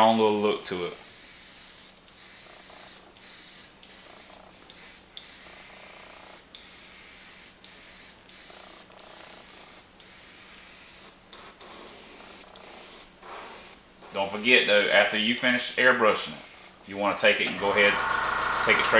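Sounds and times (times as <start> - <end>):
airbrush hissing in bursts: 0.0 - 18.9.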